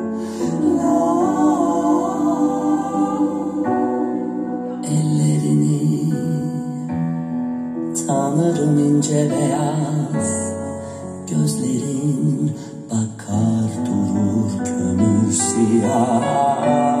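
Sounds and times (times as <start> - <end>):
slow song with voice and guitar: 0.0 - 17.0.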